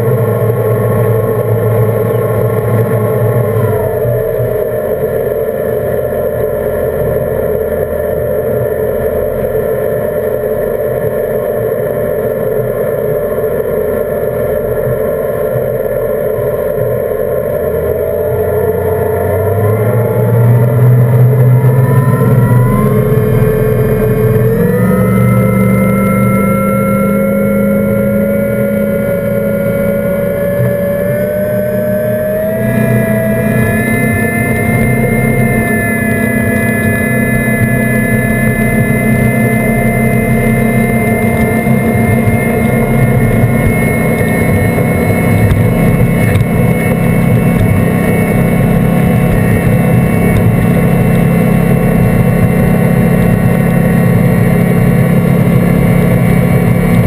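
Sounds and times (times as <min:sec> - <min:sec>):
outboard motor running at high speed: 0:00.0 - 0:57.0.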